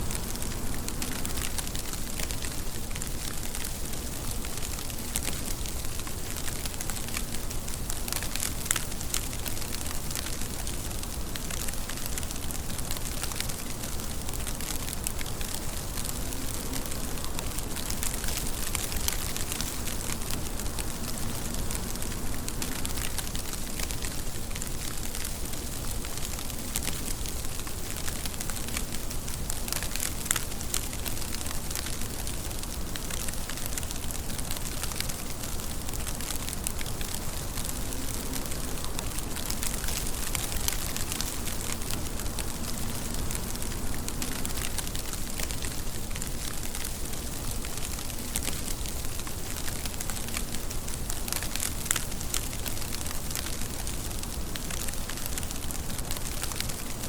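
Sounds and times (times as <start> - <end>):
raindrops ticking on surface: 0.0 - 57.0
steady rain hissing: 0.0 - 57.0.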